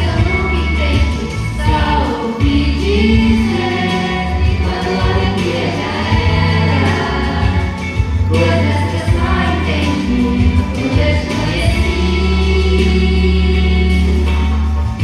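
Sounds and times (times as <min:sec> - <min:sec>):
group singing pop song: 0:00.0 - 0:15.0
instrumental accompaniment with bass: 0:00.0 - 0:15.0.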